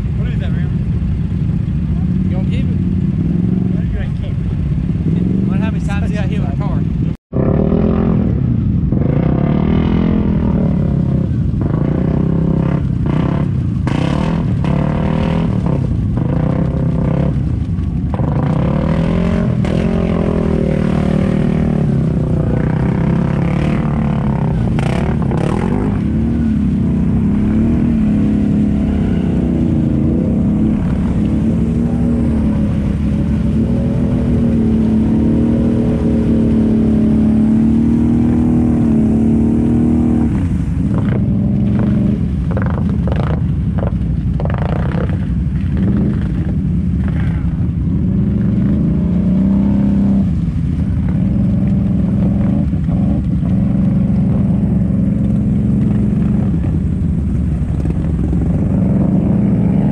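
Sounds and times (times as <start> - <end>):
atv engine running: 0.0 - 59.9
sharp splashes and knocks: 11.2 - 59.9.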